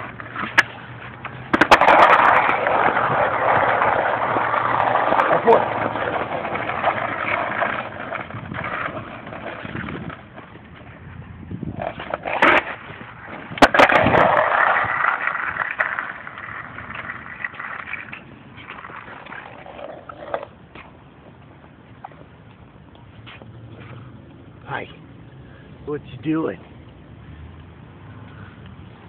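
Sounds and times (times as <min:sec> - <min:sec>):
skateboard wheels rolling: 0:00.0 - 0:25.0.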